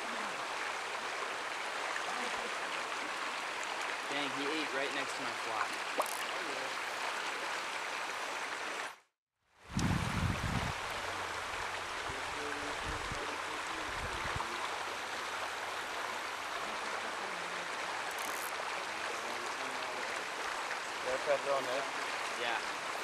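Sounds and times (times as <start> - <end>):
stream water rushing: 0.0 - 9.1, 9.7 - 23.0.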